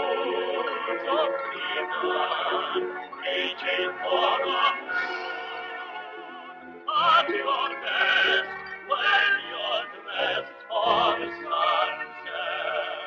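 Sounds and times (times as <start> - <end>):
man singing with vibrato: 0.0 - 13.0
musical accompaniment: 0.0 - 13.0.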